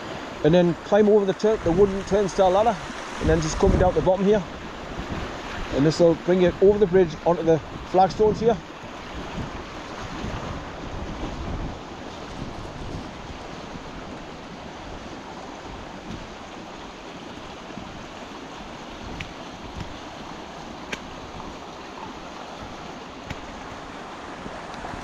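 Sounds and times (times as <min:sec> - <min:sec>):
stream rushing: 0:00.0 - 0:25.0.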